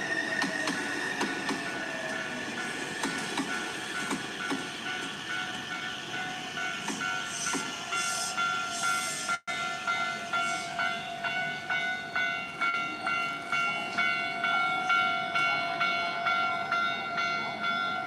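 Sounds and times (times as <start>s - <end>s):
railroad crossing bell ringing: 0.0s - 18.0s.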